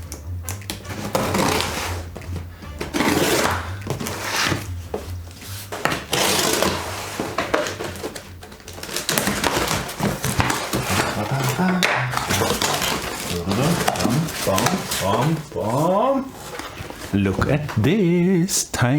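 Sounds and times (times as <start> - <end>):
cardboard and wrapping rustling: 0.0 - 18.6.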